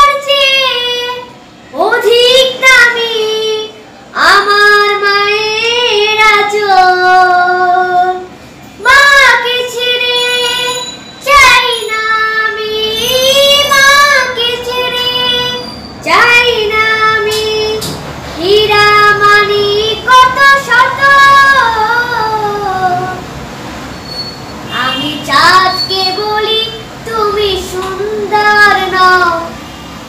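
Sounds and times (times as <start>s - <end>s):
boy singing solo: 0.0s - 23.2s, 24.8s - 29.6s.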